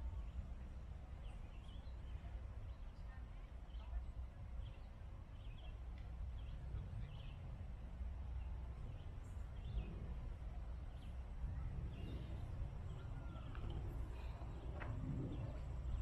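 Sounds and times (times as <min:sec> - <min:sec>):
low outdoor air rumble: 0:00.0 - 0:16.0.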